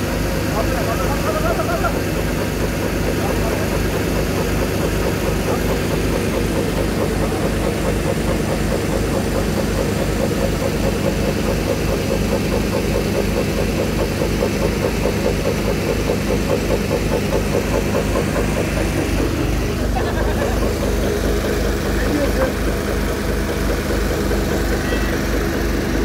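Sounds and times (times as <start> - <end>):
engine idling with low pulsing: 0.0 - 26.0.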